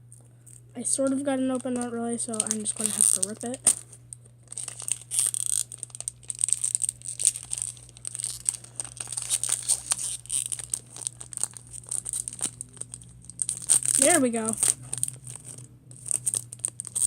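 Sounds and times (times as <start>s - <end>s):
foil wrapper crinkling and tearing: 1.0s - 17.0s.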